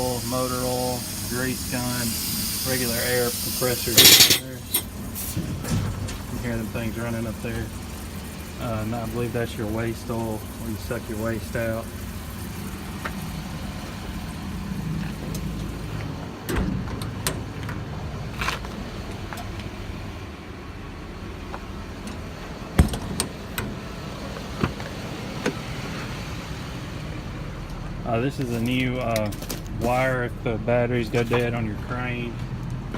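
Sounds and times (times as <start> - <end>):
engine idling: 0.0 - 32.9.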